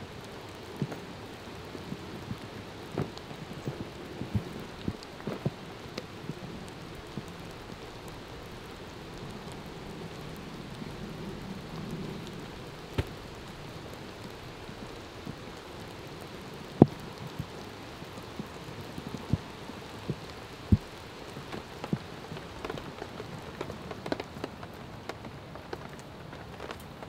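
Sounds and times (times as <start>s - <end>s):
rain falling in woodland: 0.0s - 27.0s.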